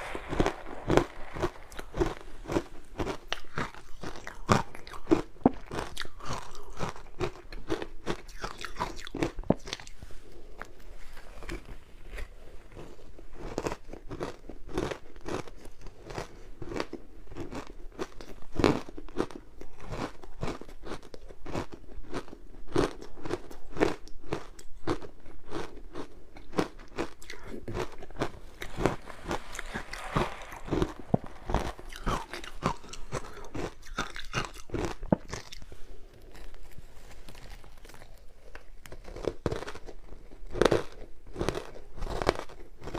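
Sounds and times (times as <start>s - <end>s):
crunching frozen ice: 0.0s - 10.0s, 10.6s - 42.9s.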